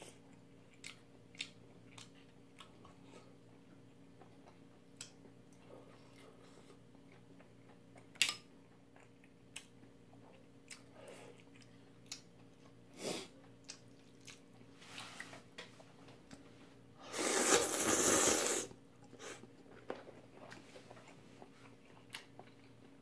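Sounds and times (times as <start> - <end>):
low steady hum: 0.0 - 23.0
quiet chewing of noodles: 0.0 - 23.0.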